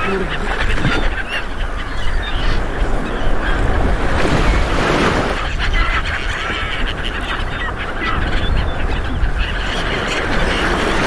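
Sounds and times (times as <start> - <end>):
gulls calling: 0.0 - 11.0
wind rumble on microphone: 0.0 - 11.0.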